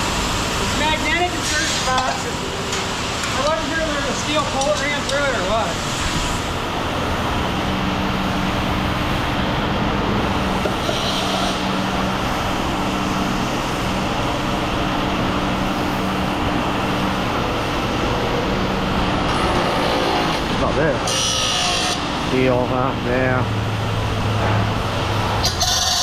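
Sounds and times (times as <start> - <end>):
machinery rumble: 0.0 - 26.0.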